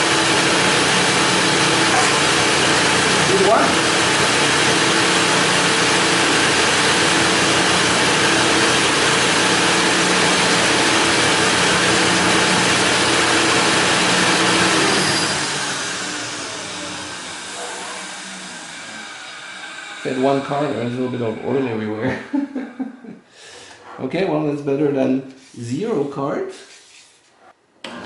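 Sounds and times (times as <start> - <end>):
blower rushing air: 0.0 - 23.1.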